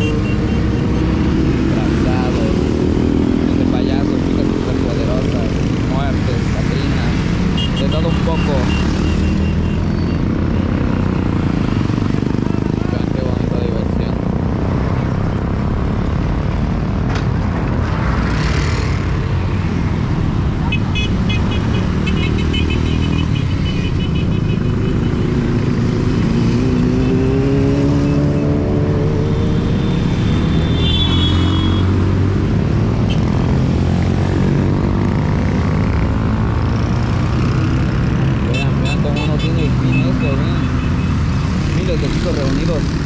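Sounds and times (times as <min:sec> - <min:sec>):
motorcycle engines rumbling: 0:00.0 - 0:43.0.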